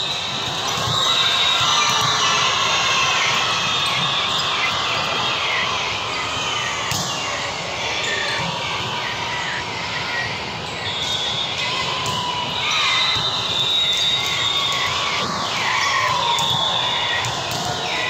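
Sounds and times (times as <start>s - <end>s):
many voices talking and calling: 0.0s - 18.0s.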